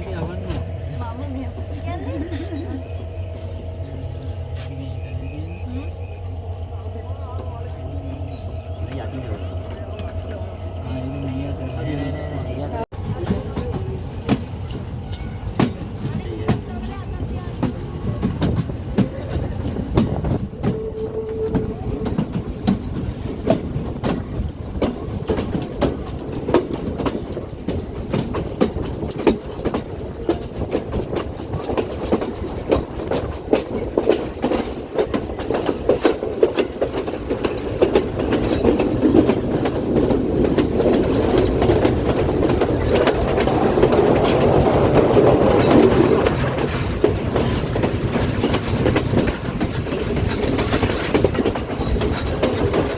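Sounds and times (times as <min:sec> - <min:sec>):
train rumble: 0:00.0 - 0:52.9
train wheels clacking on rails: 0:00.0 - 0:52.9.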